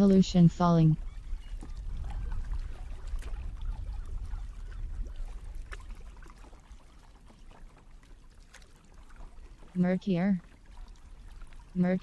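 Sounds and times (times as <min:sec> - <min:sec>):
waves splashing against kayak: 0:01.0 - 0:12.0.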